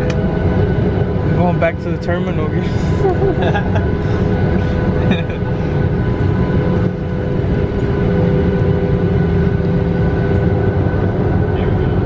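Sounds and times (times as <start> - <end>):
jet engine rumble: 0.0 - 12.0
jet engine whine: 0.0 - 12.0.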